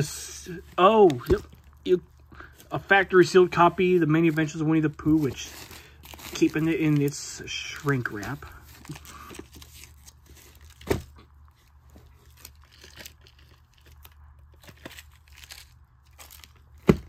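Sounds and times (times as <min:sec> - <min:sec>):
plastic wrap crinkling: 0:00.3 - 0:17.0.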